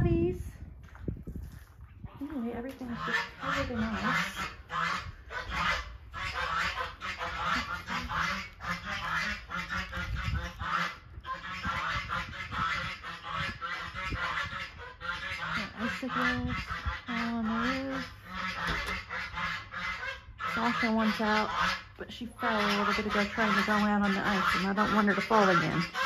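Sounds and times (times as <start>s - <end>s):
geese honking: 2.8s - 26.0s.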